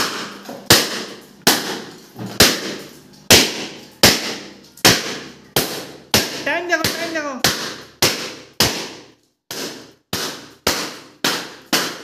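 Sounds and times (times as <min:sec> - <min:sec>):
balloons popping: 0:00.0 - 0:12.0.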